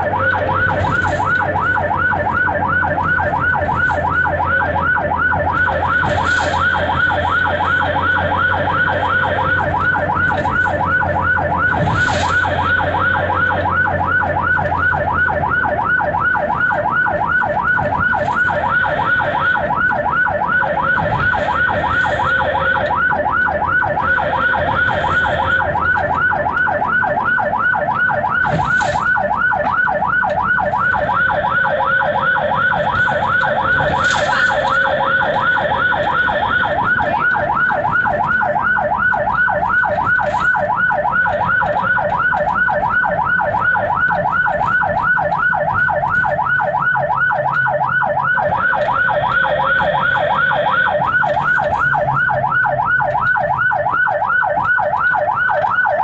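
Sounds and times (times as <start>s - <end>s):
ambulance siren yelping: 0.0s - 56.0s.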